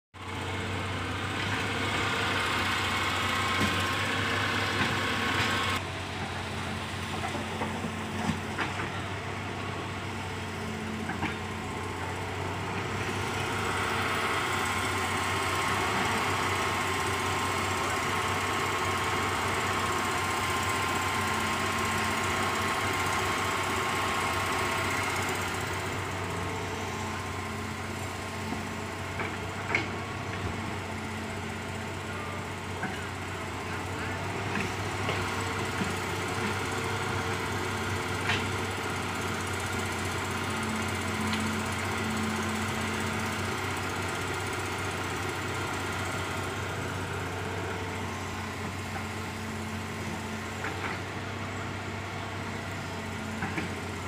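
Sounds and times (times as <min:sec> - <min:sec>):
diesel engine running: 0:00.2 - 0:54.0.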